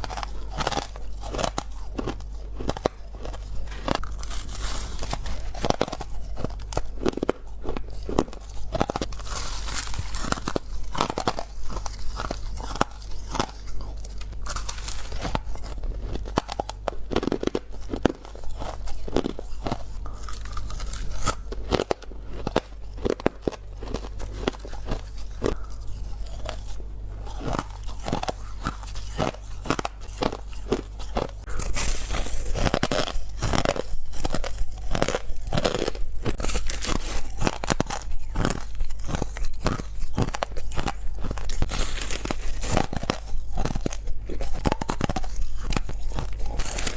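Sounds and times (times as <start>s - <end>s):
teeth crunching ice: 0.0s - 46.9s.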